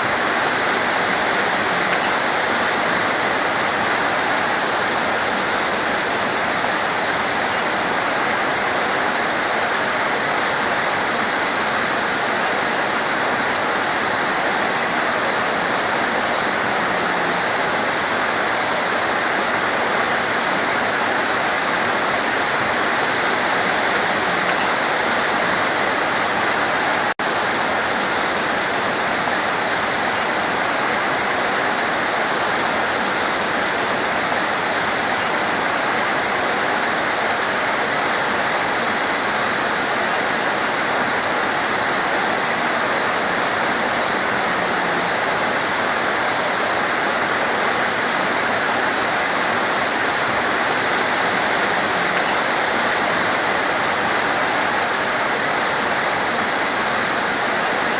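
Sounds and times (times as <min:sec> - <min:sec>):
torrential rain: 0:00.0 - 0:57.9.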